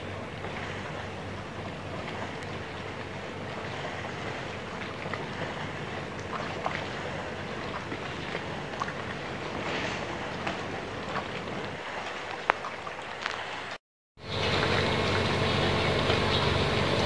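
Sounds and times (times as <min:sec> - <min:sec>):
water lapping: 0:00.0 - 0:17.0.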